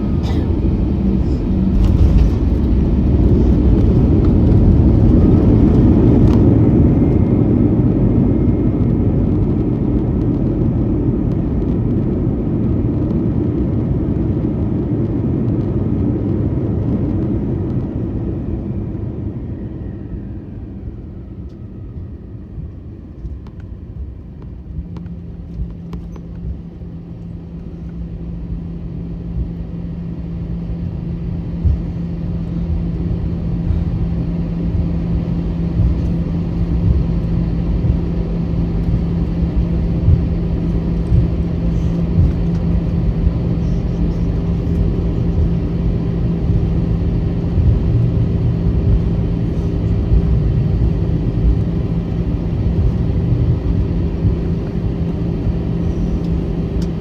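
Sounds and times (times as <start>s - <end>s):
airplane cabin hum: 0.0s - 57.0s
jet engine and runway rumble: 0.0s - 57.0s.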